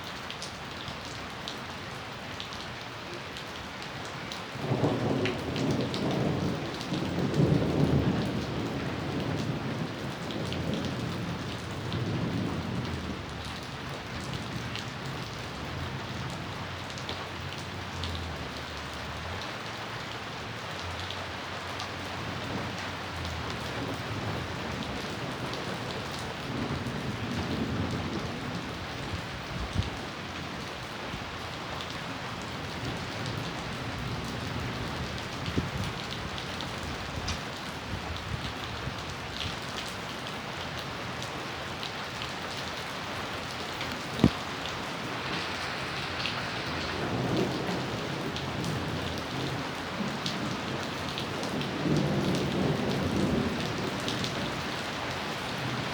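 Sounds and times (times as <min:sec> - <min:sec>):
steady rain falling: 0:00.0 - 0:55.9
rolling thunder rumble: 0:04.5 - 0:30.7, 0:32.4 - 0:40.0, 0:42.6 - 0:55.9.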